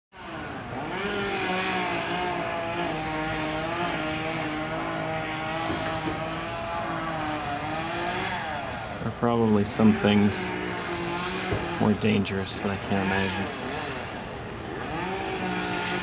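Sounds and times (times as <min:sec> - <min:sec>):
chainsaw cutting at high revs: 0:00.2 - 0:16.0.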